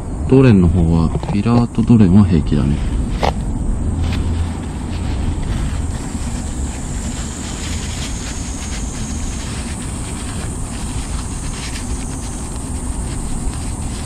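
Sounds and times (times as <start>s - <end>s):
steady low rumble: 0.0s - 14.0s
paper towel rustling: 2.7s - 14.0s.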